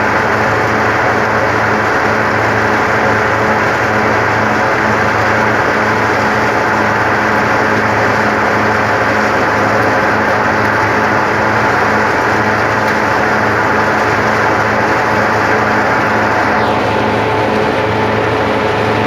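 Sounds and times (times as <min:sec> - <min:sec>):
thresher mechanical drone: 0:00.0 - 0:19.0.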